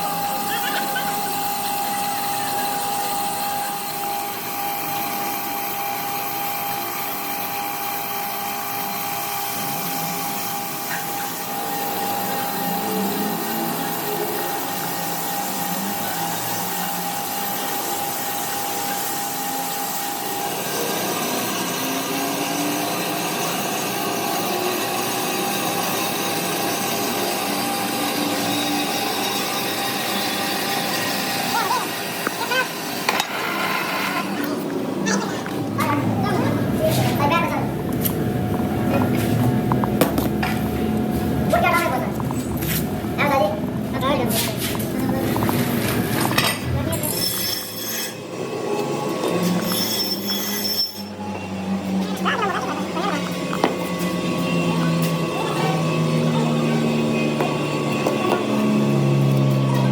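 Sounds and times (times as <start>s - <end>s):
power tool running: 0.0s - 59.9s.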